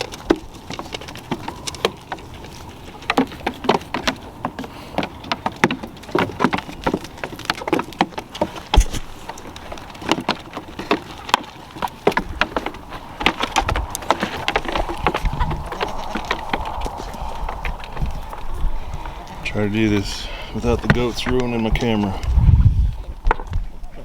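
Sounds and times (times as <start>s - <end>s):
goat hooves clattering: 0.0s - 24.0s.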